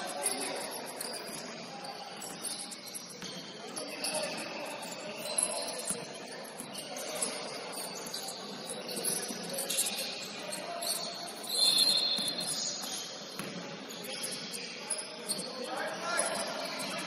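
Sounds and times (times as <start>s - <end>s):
sneakers squeaking on hardwood floor: 0.0s - 17.0s.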